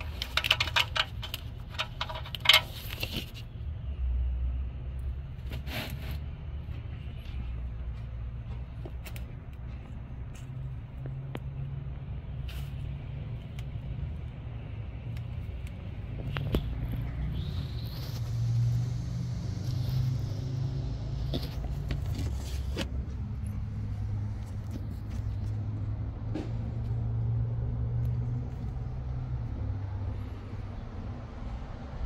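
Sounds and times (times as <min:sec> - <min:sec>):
passing vehicle rumbling: 0:00.0 - 0:32.0.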